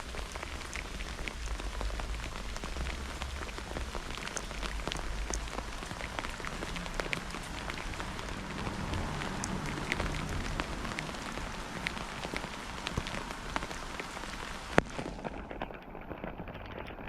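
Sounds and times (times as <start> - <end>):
rain hissing: 0.0 - 15.6
raindrops ticking: 0.0 - 17.0.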